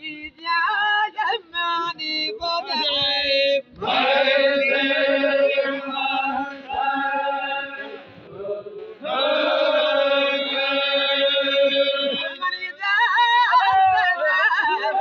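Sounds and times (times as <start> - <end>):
voices chanting a long note: 2.6 - 15.0.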